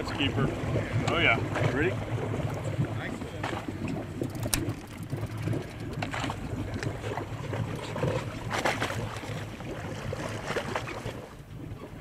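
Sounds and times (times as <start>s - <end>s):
fish splashing at water surface: 0.0s - 11.4s
boat motor humming: 0.0s - 12.0s.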